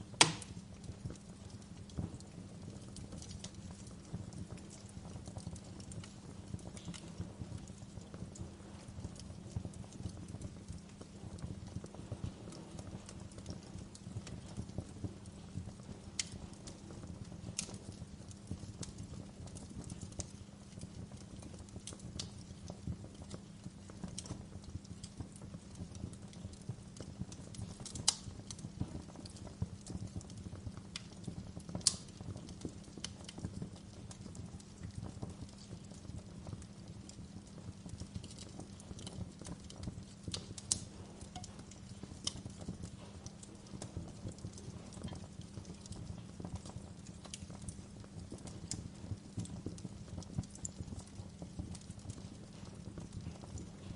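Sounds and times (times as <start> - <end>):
sharp pops from fire: 0.0 - 53.9
wood fire crackling: 0.0 - 53.9.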